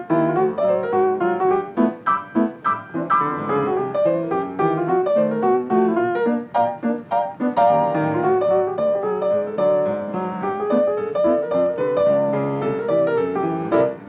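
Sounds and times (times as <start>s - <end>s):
piano piece: 0.0s - 14.0s.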